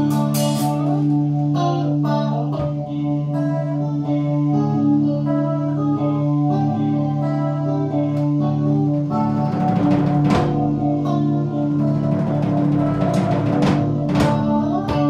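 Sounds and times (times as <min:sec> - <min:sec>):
drum kit: 0:00.0 - 0:15.0
electric guitar through amplifier: 0:00.0 - 0:15.0.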